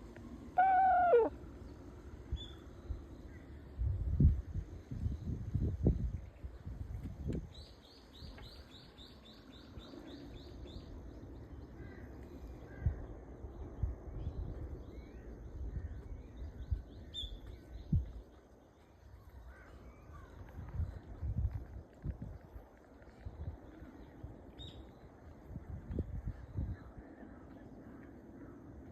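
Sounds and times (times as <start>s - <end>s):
small birds chirping: 4.9s - 28.8s.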